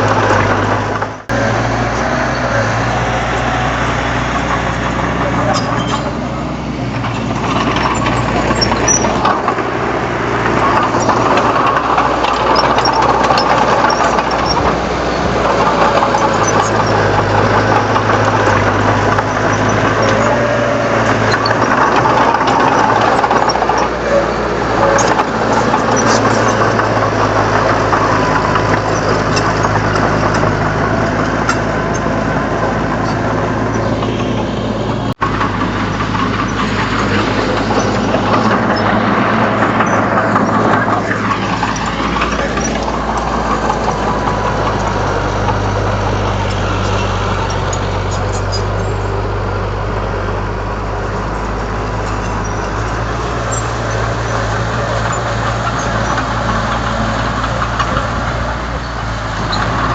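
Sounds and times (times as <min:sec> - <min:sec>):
bulldozer diesel engine running: 0:00.0 - 0:59.9
clicks and clanks: 0:04.2 - 0:49.6, 0:50.9 - 0:59.9.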